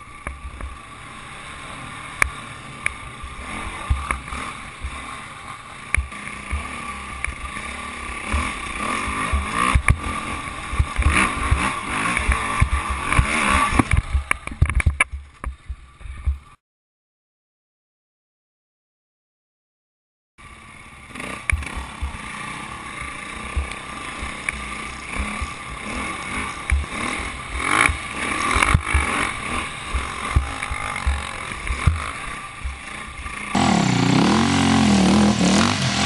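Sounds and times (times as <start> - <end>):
motorcycle engine running: 0.0 - 16.6, 20.4 - 36.0.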